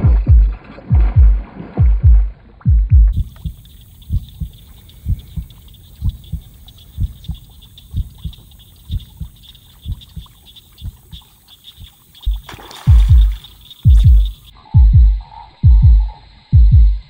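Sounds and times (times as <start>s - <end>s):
heartbeat thumps: 0.0s - 17.0s.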